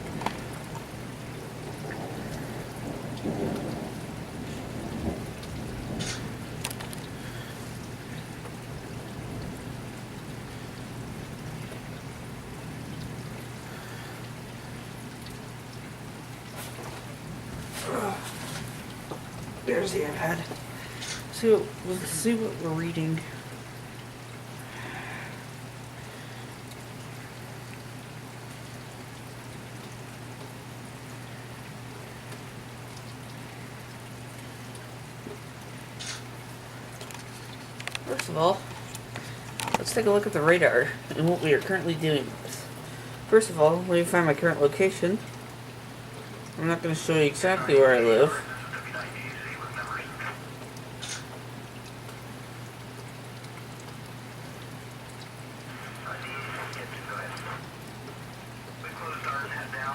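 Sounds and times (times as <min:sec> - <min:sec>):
heavy rain hissing: 0:00.0 - 0:29.0, 0:29.6 - 0:52.6, 0:54.2 - 0:59.9
steady low hum: 0:00.0 - 0:59.9.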